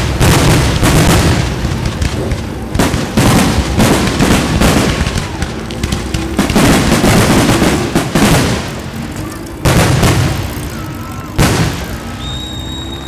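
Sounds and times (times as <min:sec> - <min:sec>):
continuous low rumble: 0:00.0 - 0:13.0
fireworks booming: 0:00.0 - 0:13.0.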